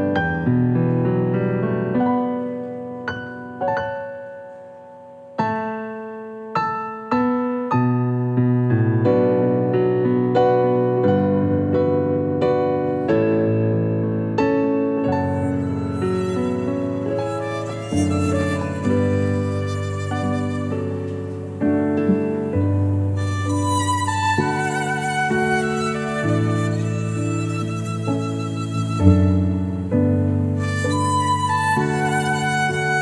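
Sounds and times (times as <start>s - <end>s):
slow gentle piano music: 0.0s - 33.0s.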